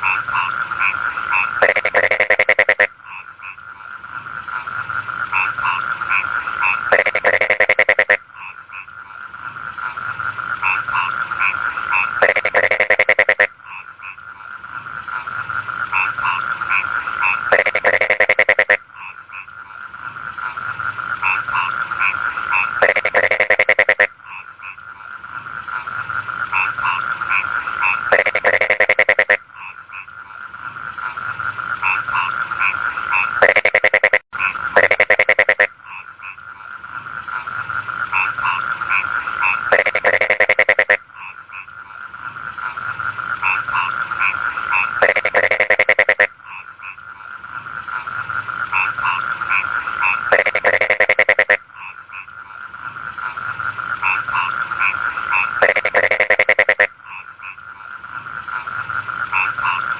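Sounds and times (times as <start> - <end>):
frogs calling in chorus: 0.0 - 59.9
frogs pulsing croak: 0.0 - 59.9.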